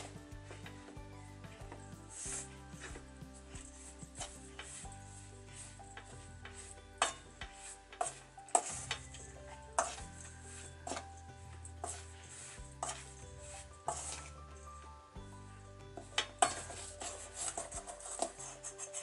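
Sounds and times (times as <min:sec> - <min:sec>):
hands mixing dough in a bowl: 0:00.0 - 0:19.0
soft background music: 0:00.0 - 0:19.0.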